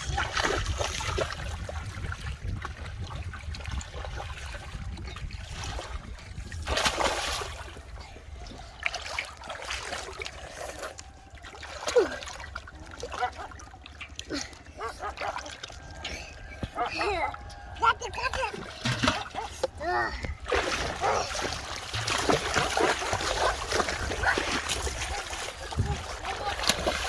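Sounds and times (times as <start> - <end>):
muddy water splashing: 0.0 - 27.0.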